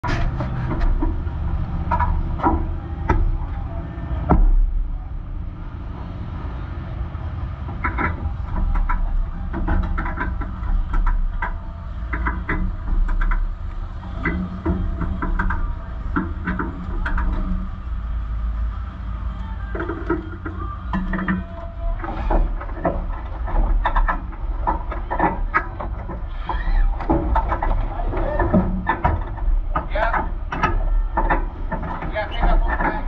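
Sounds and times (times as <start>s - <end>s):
car rattles and knocks: 0.0s - 5.8s, 7.4s - 18.3s, 19.6s - 33.0s
race car engine rumble: 0.0s - 33.0s.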